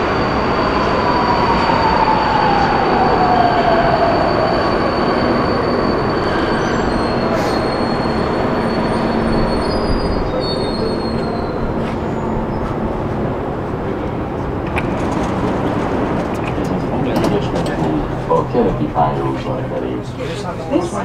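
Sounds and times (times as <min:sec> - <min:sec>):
metro train rumble with whine: 0:00.0 - 0:21.0.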